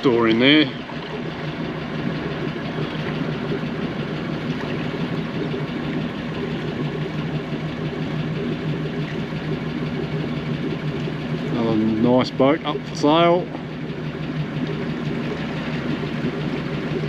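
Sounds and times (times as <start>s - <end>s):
boat engine droning steadily: 0.0s - 17.0s.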